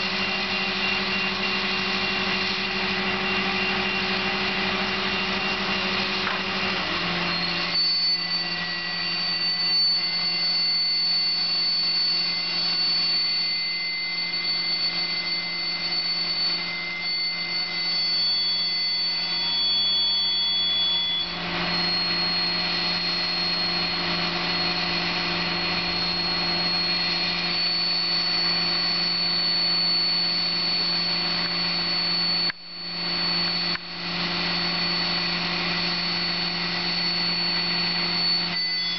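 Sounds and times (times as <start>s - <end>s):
crane engine running: 0.0s - 38.9s
high engine whine: 0.0s - 38.9s.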